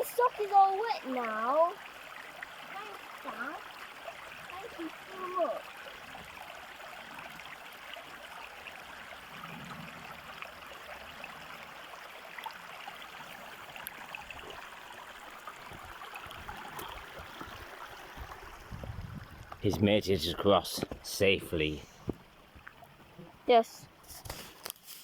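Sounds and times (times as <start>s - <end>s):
small stream babbling: 0.0s - 25.0s.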